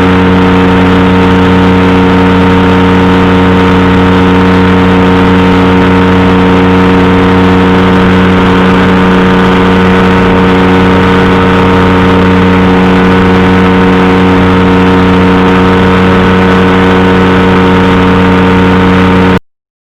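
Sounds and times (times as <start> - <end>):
engine and propeller running loudly: 0.0 - 19.4.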